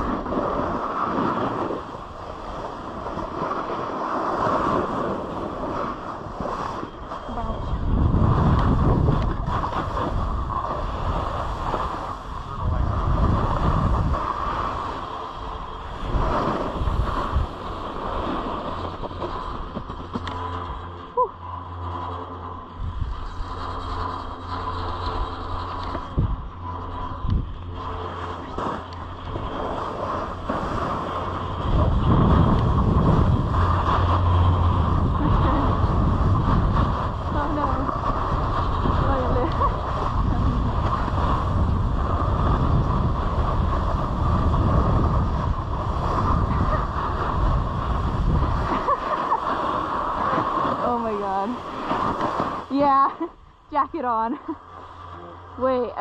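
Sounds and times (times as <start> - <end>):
snowboard scraping over snow: 0.0 - 54.3
wind rumble on microphone: 0.0 - 56.0.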